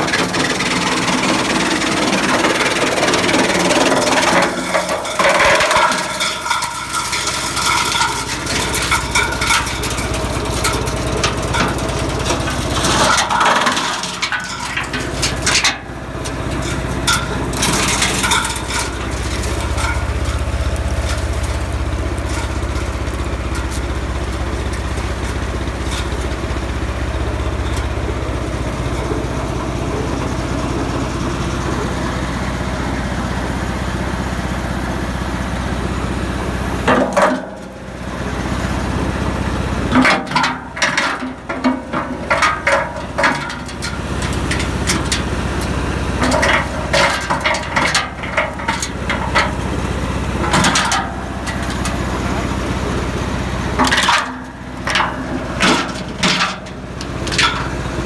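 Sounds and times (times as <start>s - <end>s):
tractor engine humming: 0.0s - 58.0s
wood chipper crackling and clattering: 0.0s - 58.0s.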